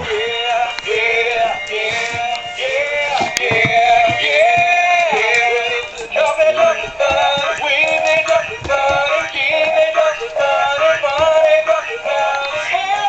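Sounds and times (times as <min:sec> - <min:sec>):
backing tune: 0:00.0 - 0:13.0
synthetic voice singing: 0:00.0 - 0:13.0.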